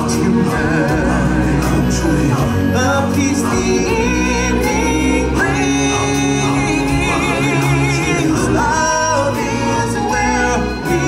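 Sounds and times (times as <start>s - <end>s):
instrumental accompaniment: 0.0s - 11.0s
voices singing with vibrato: 0.0s - 11.0s.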